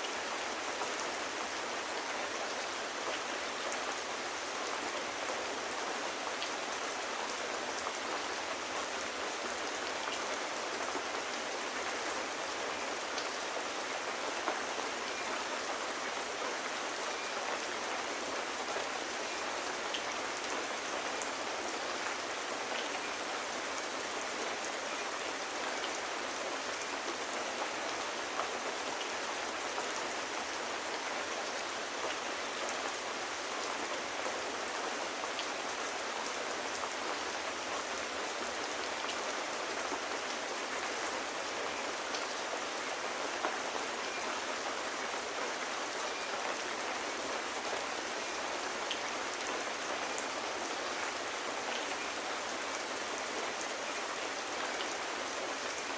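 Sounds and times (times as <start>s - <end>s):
rain on hard surfaces: 0.0s - 55.9s.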